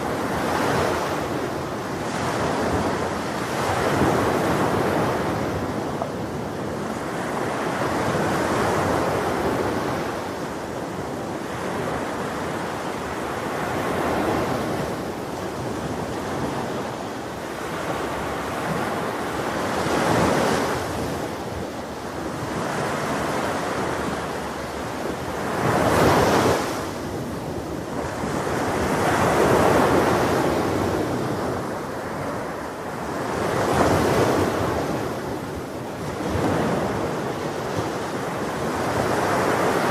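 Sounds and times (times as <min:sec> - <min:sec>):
ocean waves breaking on beach: 0:00.0 - 0:39.9
wind noise on microphone: 0:00.0 - 0:39.9.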